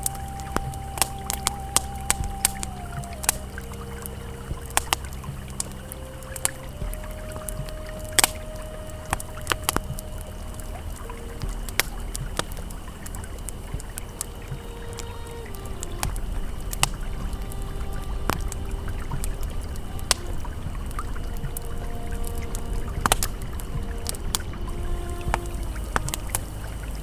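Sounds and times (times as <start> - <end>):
ambient music tones: 0.0 - 27.0
campfire crackling and popping: 0.0 - 27.0
river flowing: 0.0 - 27.0.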